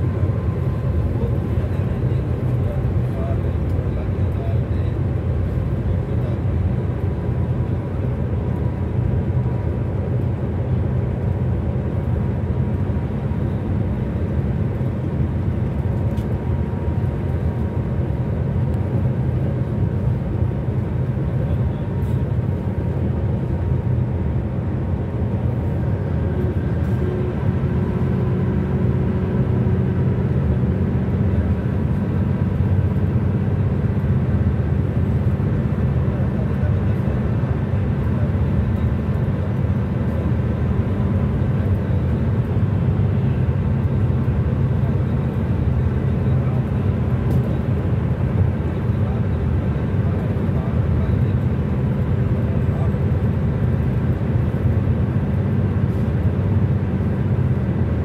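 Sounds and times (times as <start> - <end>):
car road noise at speed: 0.0 - 58.0.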